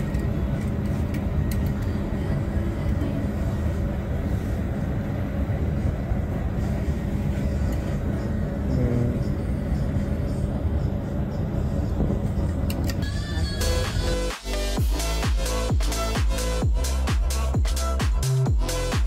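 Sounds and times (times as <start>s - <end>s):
low indoor rumble: 0.0s - 19.0s.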